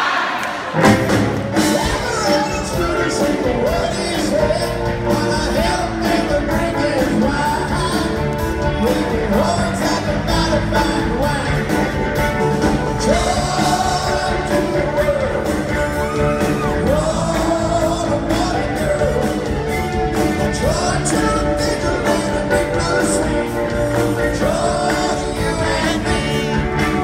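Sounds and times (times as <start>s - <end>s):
live rock band playing: 0.6s - 27.0s
male lead vocal: 1.6s - 27.0s.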